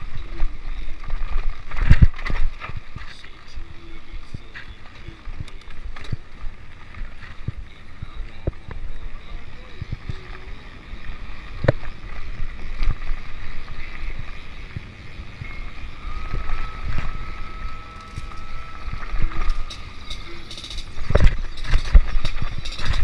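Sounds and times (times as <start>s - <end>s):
bike knocking and rattling: 0.0s - 23.0s
bike tyres rumbling on dirt: 0.0s - 23.0s
wind buffeting microphone: 0.0s - 23.0s.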